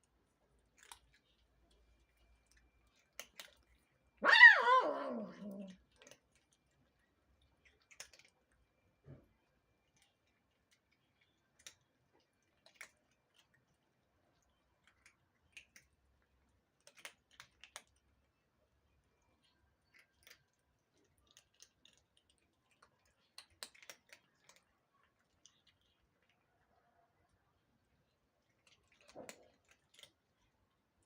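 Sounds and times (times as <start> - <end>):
cats chewing dry food: 0.0 - 31.0.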